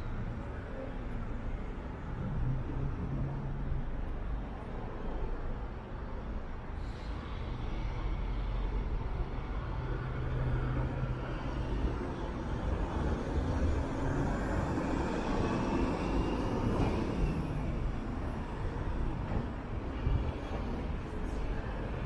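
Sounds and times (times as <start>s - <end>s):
vehicles passing on street: 0.0s - 22.0s.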